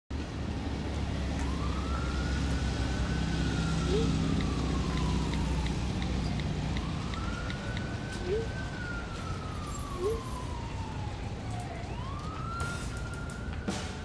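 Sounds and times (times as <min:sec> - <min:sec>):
city noise rumble: 0:00.1 - 0:14.0
siren wailing: 0:01.2 - 0:14.0.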